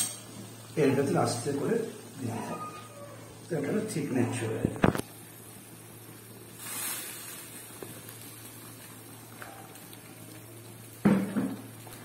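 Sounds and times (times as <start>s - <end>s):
gravy simmering in a frying pan: 0.2s - 12.0s
liquid pouring hiss: 0.3s - 12.0s.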